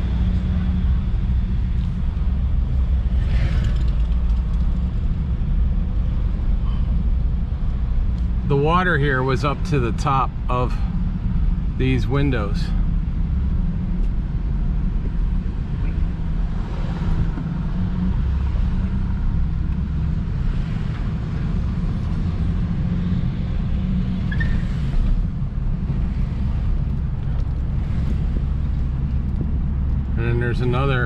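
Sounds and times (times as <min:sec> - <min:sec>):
car interior engine and tyre rumble: 0:00.0 - 0:31.0.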